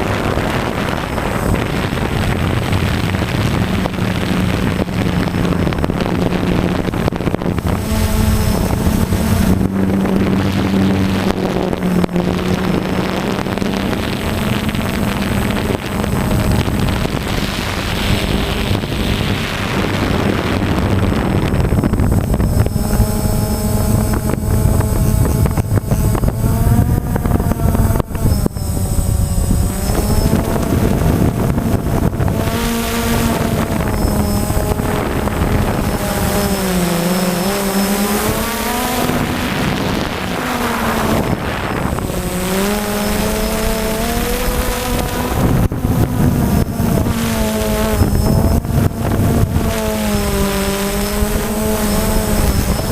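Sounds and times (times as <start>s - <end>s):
quadcopter motors buzzing: 0.0s - 52.9s
wind rush: 0.0s - 52.9s.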